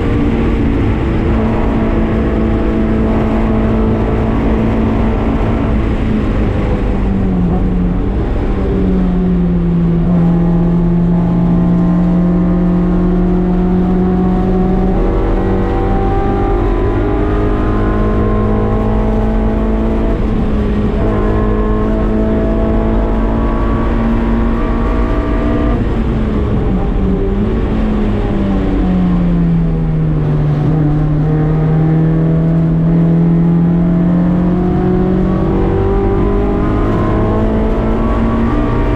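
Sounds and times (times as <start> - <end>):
car engine at high revs: 0.0 - 38.9.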